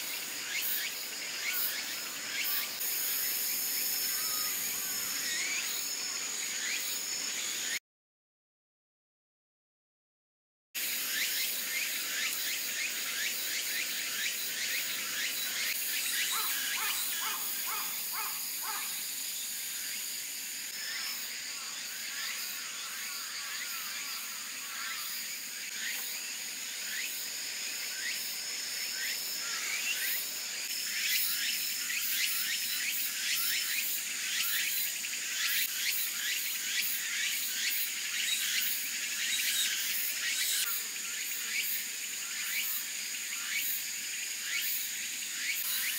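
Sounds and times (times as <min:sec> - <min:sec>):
insects trilling: 0:00.0 - 0:07.8, 0:10.8 - 0:45.9.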